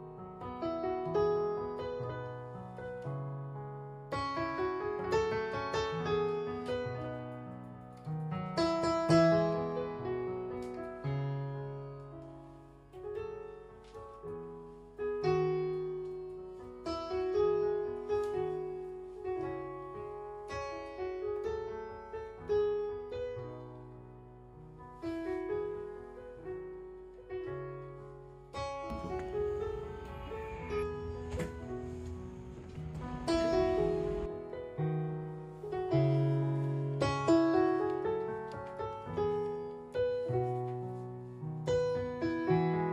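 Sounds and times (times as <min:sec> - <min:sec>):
slow piano chords: 0:00.0 - 0:42.9.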